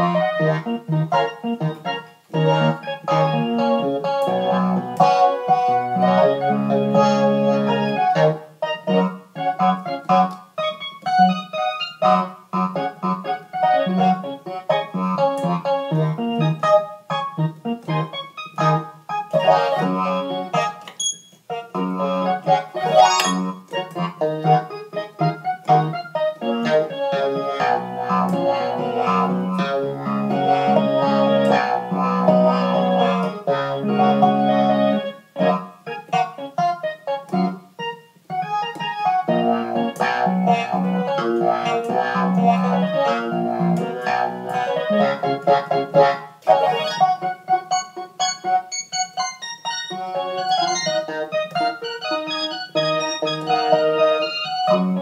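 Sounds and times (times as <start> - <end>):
funk organ keyboard playing: 0.0 - 55.0.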